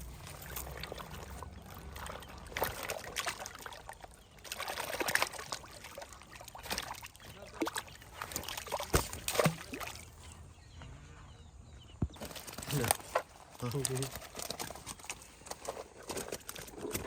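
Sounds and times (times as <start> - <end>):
water trickling and splashing: 0.0 - 10.5, 12.2 - 17.0.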